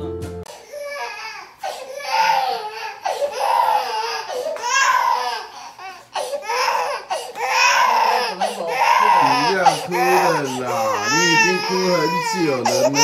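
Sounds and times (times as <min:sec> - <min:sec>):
baby crying: 0:00.5 - 0:13.0
baby gasping: 0:01.6 - 0:13.0.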